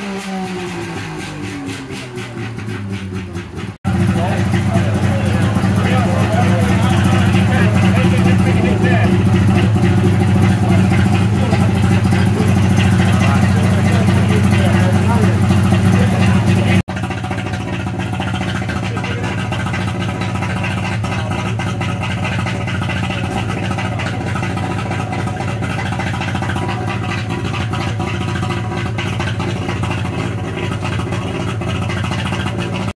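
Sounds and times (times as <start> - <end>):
two-stroke car engine running: 0.0 - 33.0.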